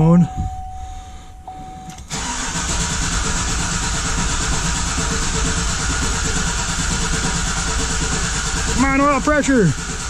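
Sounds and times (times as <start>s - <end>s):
engine cranking without firing: 1.9s - 10.0s.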